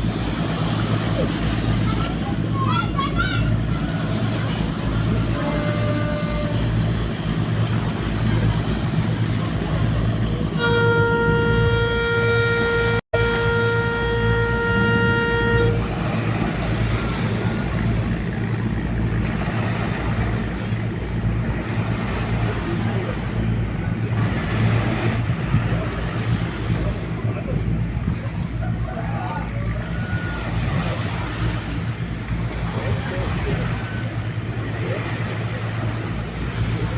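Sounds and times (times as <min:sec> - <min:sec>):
ship engines droning: 0:00.0 - 0:36.9
ship's horn blast: 0:00.0 - 0:36.9.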